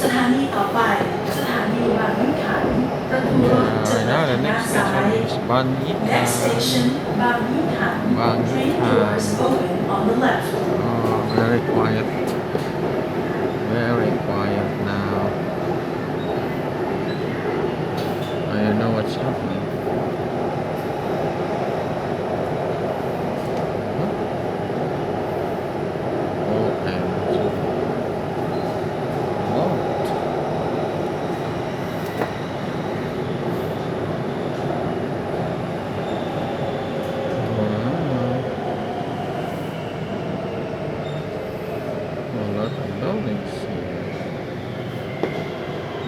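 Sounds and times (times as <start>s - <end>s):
metro train running noise: 0.0s - 46.0s.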